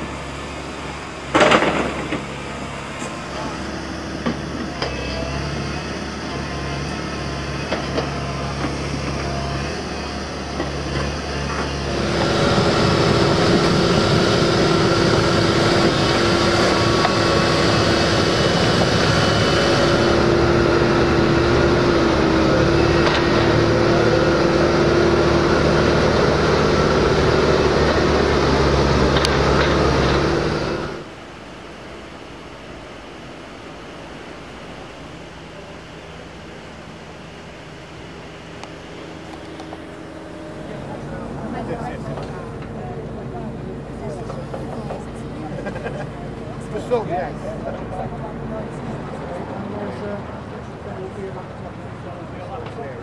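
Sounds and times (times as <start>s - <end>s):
excavator diesel engine running: 0.0s - 53.0s
quiet steady rush: 0.0s - 53.0s.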